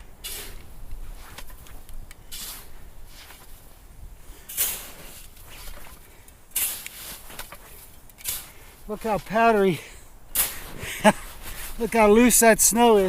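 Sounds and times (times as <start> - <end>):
snow shovel scraping snow: 0.2 - 1.6, 2.2 - 13.0.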